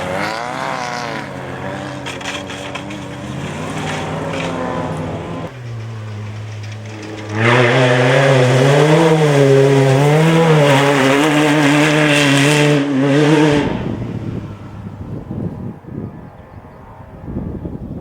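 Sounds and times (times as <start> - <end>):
loud engine revving: 0.0 - 16.2
steady engine note: 0.0 - 16.4.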